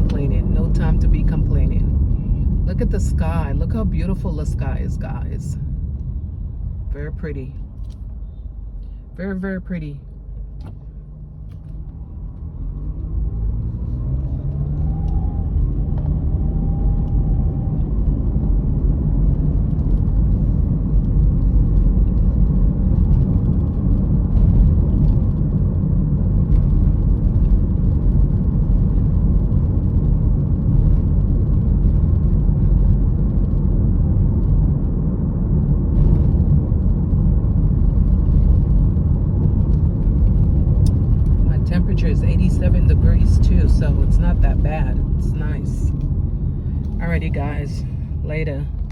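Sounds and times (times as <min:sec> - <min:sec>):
car engine: 0:00.0 - 0:48.9
road rumble inside car: 0:00.0 - 0:48.9.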